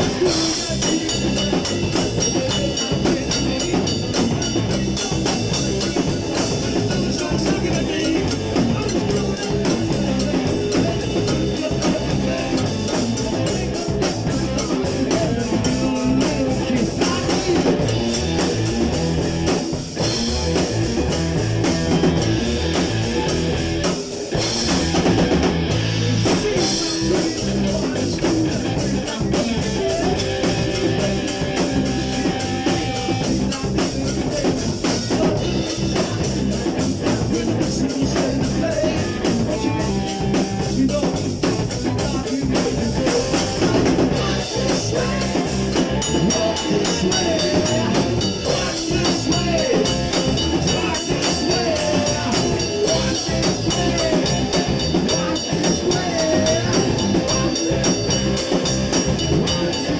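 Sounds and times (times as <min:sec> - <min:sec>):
rock music with guitar and drums: 0:00.0 - 0:59.9.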